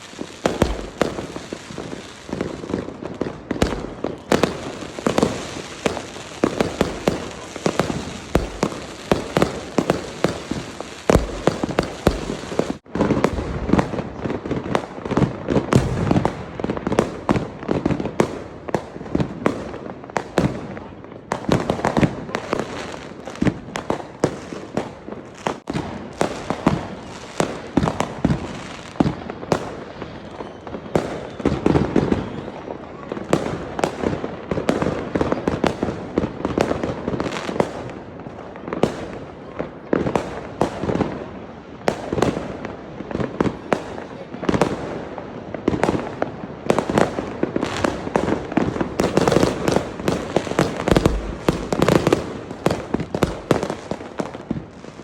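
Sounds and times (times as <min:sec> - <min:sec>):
fireworks banging and popping: 0:00.0 - 0:55.0.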